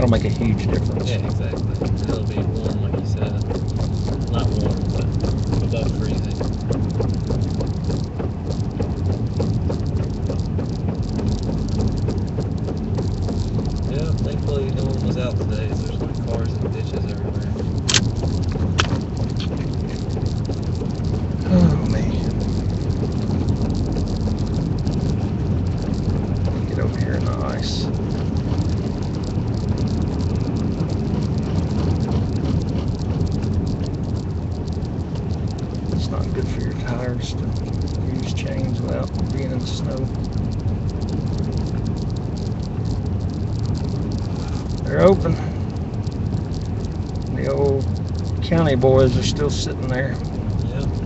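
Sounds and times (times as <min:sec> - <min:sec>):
small clicks pattering: 0:00.0 - 0:51.0
vehicle running on snowy road: 0:00.0 - 0:51.0.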